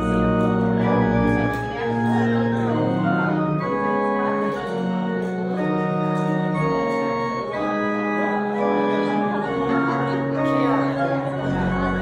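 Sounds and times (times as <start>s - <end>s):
organ playing sustained chords: 0.0s - 12.0s.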